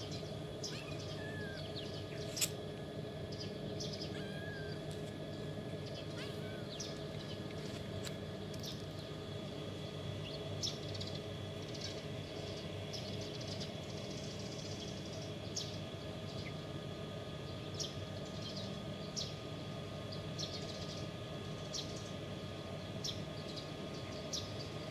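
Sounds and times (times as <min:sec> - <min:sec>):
small birds chirping: 0:00.0 - 0:02.6, 0:03.2 - 0:07.7, 0:08.5 - 0:16.7, 0:17.3 - 0:24.9
low background hum: 0:00.0 - 0:24.9.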